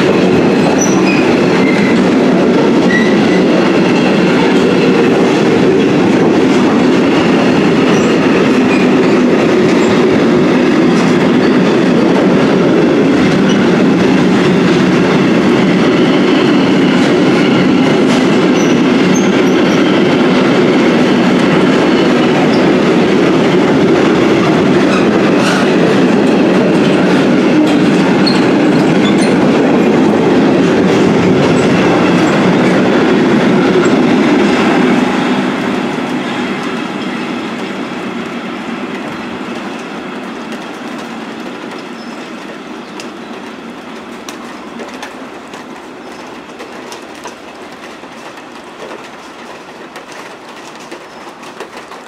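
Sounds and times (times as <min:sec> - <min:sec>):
freight wagons clattering over rails: 0:00.0 - 0:52.0.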